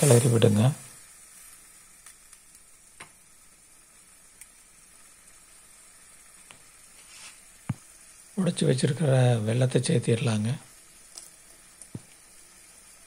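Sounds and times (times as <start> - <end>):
curry simmering with faint sizzle: 0.0 - 13.0.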